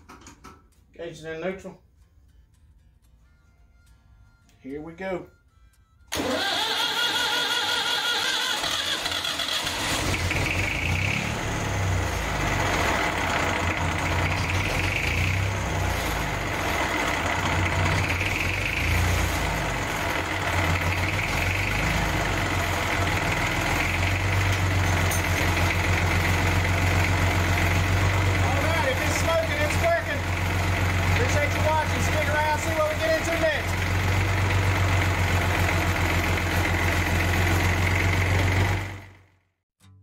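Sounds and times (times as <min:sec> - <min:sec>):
tractor engine cranking and running: 0:05.8 - 0:39.3.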